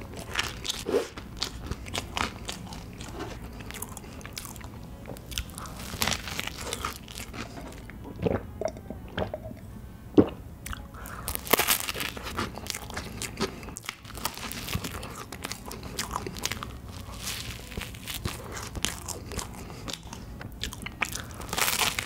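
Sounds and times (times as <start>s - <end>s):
chewing: 0.0s - 9.4s, 10.2s - 22.0s
crunching bites of waffle: 0.2s - 7.9s, 11.1s - 22.0s.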